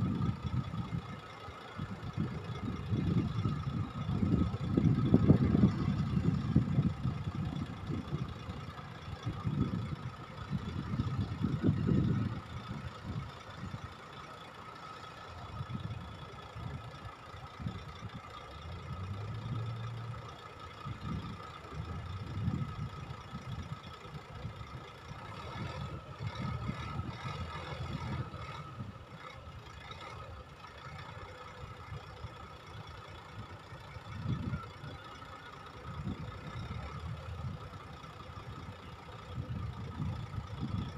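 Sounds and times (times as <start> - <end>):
dump truck diesel engine idling: 0.0 - 40.9.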